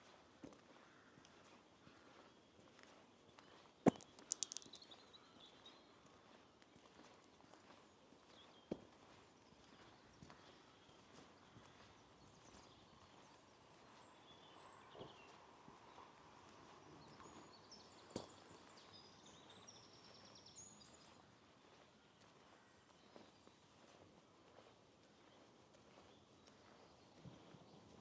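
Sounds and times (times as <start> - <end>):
small birds chirping: 1.9 - 28.0.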